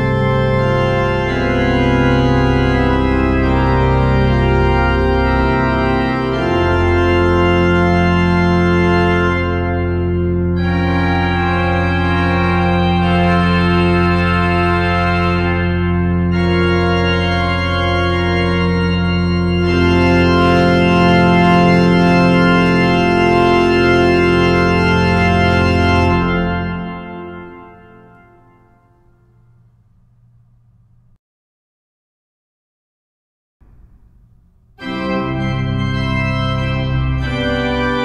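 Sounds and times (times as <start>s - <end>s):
low organ pedal note: 0.0s - 31.2s, 33.6s - 38.0s
pipe organ chords: 0.0s - 31.2s, 33.6s - 38.0s.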